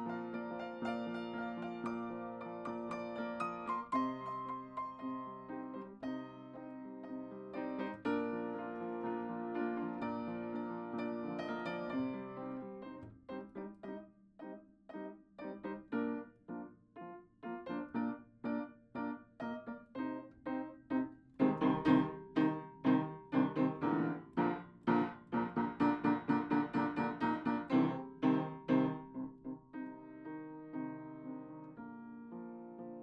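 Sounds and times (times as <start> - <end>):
solo piano: 0.0 - 33.0.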